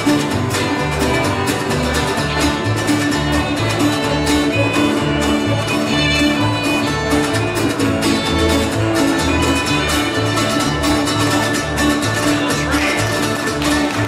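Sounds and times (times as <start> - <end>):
fiddle melody: 0.0 - 14.0
strummed acoustic guitars: 0.0 - 14.0
upright bass: 0.0 - 14.0.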